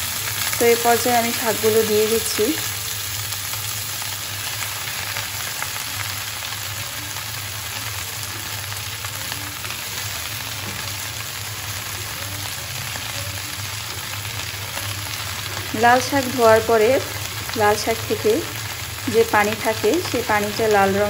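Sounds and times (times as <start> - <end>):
oil sizzling in a pot: 0.0 - 21.0.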